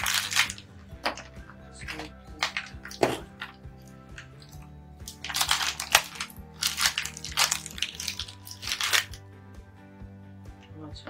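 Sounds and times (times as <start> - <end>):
plastic bottles and packaging rustling: 0.0 - 9.2
background music with steady beat: 0.0 - 11.0.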